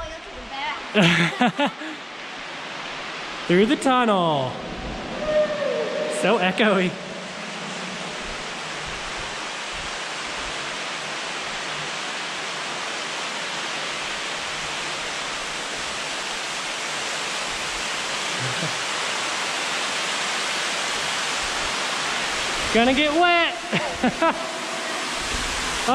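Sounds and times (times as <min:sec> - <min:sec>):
falling water rushing: 0:00.1 - 0:25.9.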